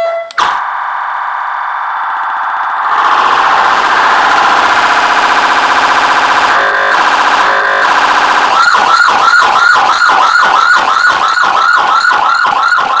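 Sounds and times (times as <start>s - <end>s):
electronic police siren: 0.0s - 13.0s.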